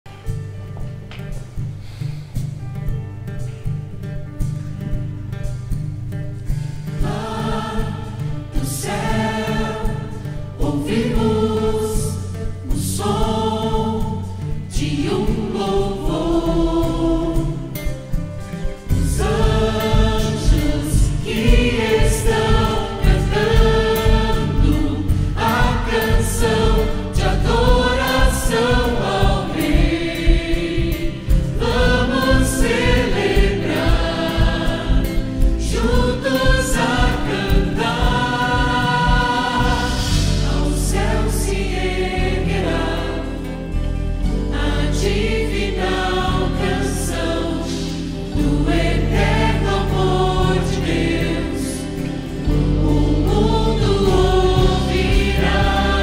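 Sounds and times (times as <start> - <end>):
mixed choir singing: 6.6 - 56.0.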